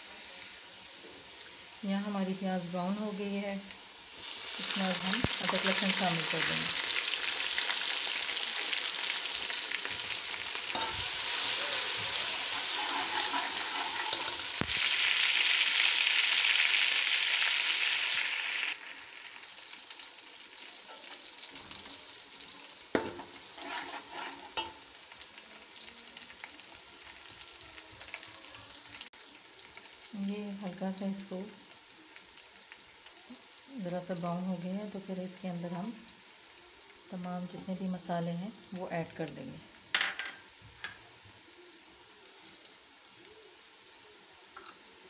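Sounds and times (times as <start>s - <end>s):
onions sizzling in hot oil: 0.0s - 45.0s.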